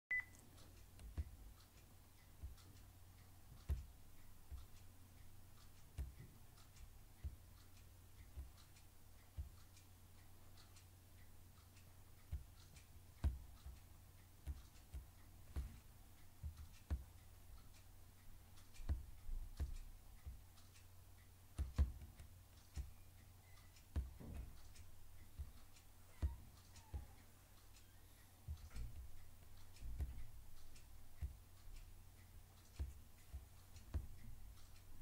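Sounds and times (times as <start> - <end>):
faint low hum: 0.1 - 35.0.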